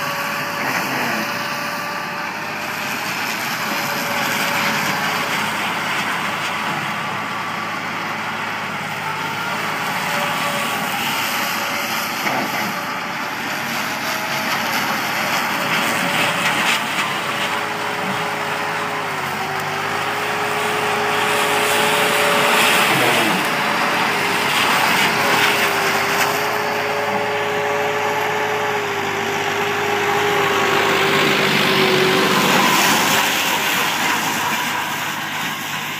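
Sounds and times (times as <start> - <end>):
mower whine: 0.0 - 35.9
tractor diesel engine running: 0.0 - 35.9.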